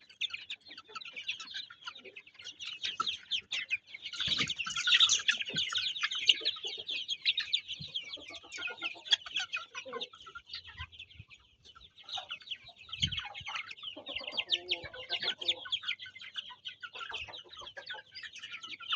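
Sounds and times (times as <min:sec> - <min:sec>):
chickens calling: 0:00.0 - 0:18.9
chickens clucking: 0:00.0 - 0:18.9.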